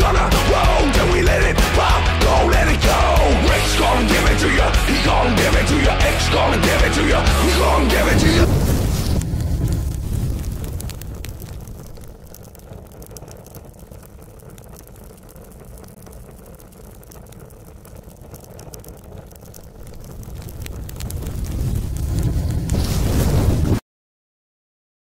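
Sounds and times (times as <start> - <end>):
low rumbling with faint crackles: 0.0 - 23.8.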